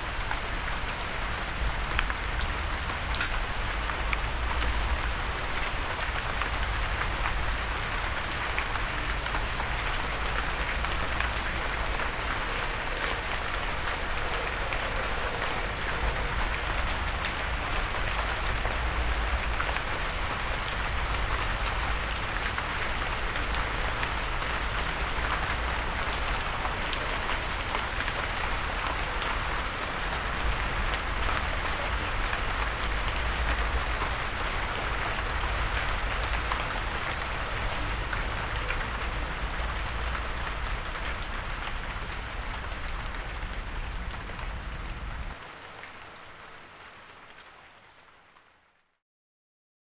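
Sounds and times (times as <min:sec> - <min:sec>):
rain pattering: 0:00.0 - 0:48.9.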